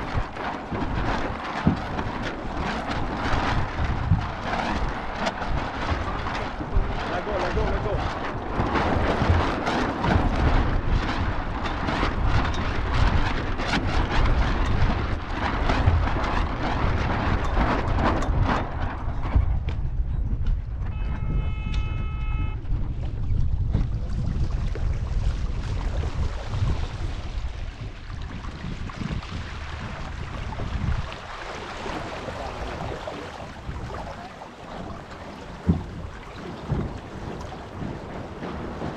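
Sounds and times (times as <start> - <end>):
water rushing along boat hull: 0.0 - 38.9
wind buffeting microphone: 0.0 - 38.9.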